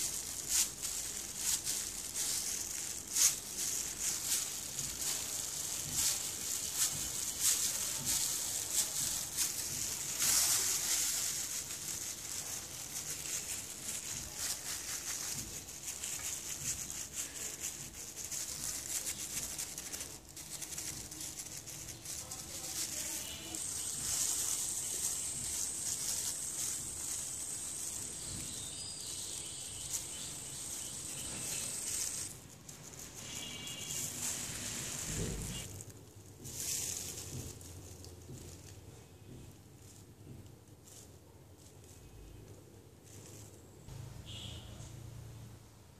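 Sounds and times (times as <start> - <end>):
plastic gloves crinkling: 0.0 - 45.4.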